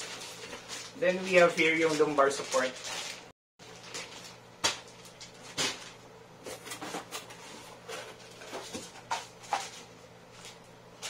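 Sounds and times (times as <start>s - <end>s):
rummaging in cardboard box: 0.0s - 10.6s
plastic packaging crinkling: 0.0s - 11.0s.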